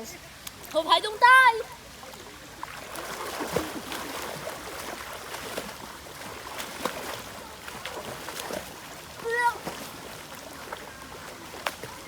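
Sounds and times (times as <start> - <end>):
mountain stream rushing: 0.0 - 12.0
small water splashes: 0.2 - 12.0.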